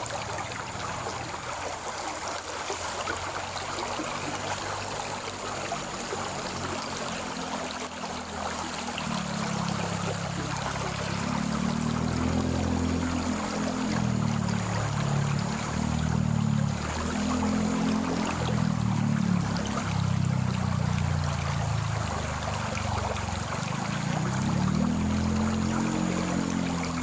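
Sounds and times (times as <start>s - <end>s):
stream water trickling: 0.0s - 27.0s.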